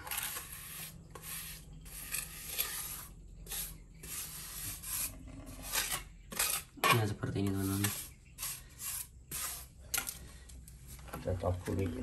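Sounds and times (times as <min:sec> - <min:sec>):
steel trowel scraping mortar: 0:00.0 - 0:10.1.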